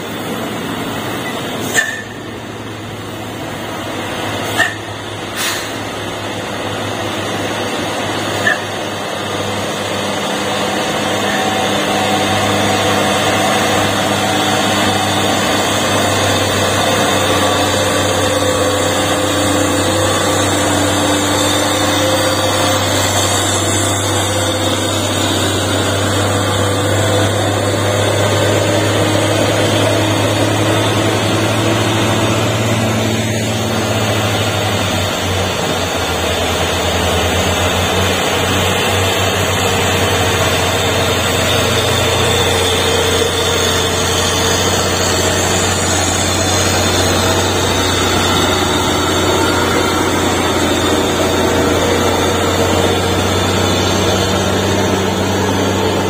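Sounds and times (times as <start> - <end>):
diesel truck engines: 0.0 - 56.0
road noise: 0.0 - 56.0.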